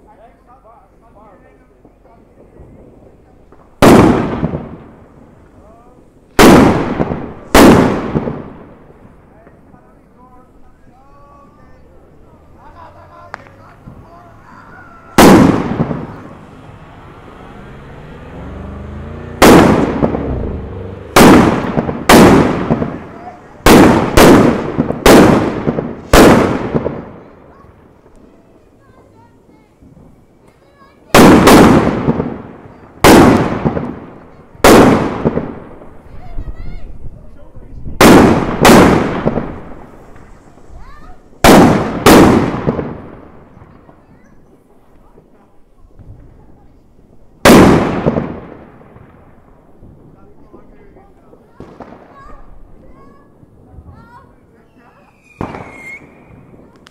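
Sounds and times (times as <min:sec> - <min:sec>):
fireworks bangs echoing: 0:00.3 - 0:56.9.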